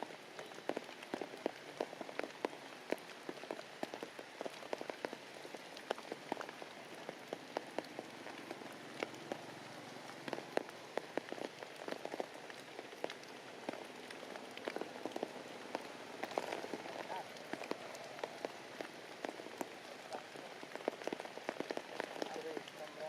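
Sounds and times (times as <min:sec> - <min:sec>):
heavy rain falling: 0:00.0 - 0:23.0
raindrops pattering: 0:00.0 - 0:23.0.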